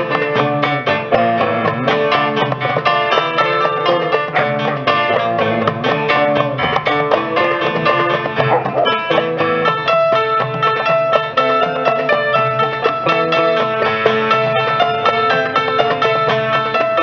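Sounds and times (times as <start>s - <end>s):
belly dance band music: 0.0s - 17.0s
hand drum: 0.0s - 17.0s
saz picking a quick melody: 0.0s - 17.0s.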